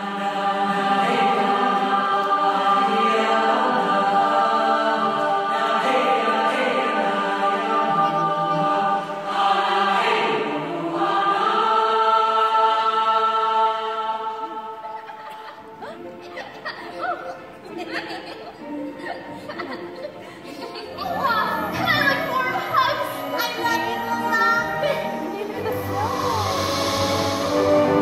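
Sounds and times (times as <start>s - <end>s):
choir singing long held notes: 0.0s - 28.0s.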